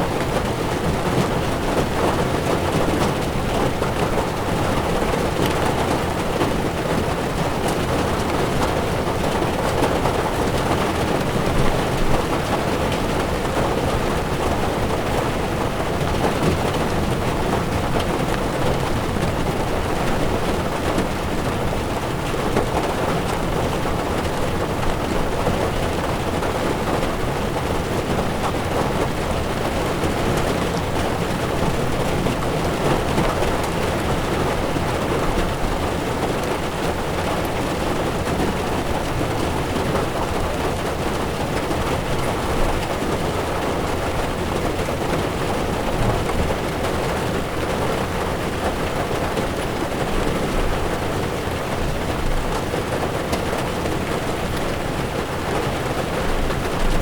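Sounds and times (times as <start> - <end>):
heavy rain on windshield: 0.0 - 57.0.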